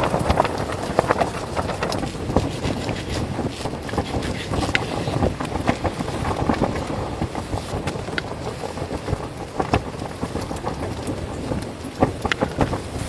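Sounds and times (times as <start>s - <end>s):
crackles and snaps: 0.0s - 13.0s
wind buffeting microphone: 0.0s - 13.0s.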